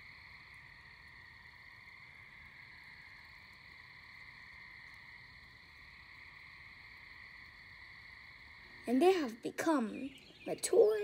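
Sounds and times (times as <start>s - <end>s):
insects and frogs calling: 0.0s - 11.0s.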